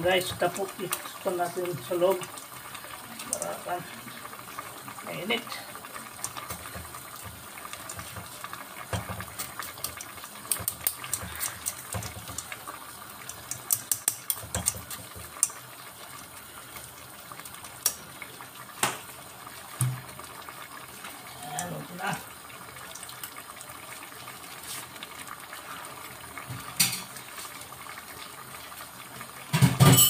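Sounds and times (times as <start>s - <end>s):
broth bubbling at a boil: 0.0s - 29.8s.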